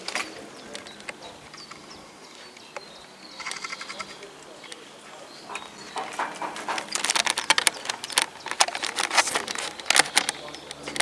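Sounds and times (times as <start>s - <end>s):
sharp clicks and knocks: 0.0s - 11.0s.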